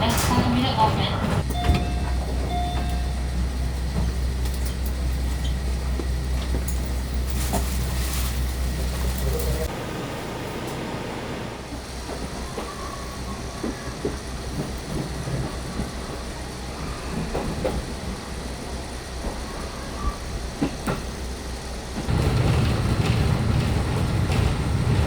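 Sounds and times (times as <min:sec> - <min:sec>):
train rumble inside carriage: 0:00.0 - 0:25.0.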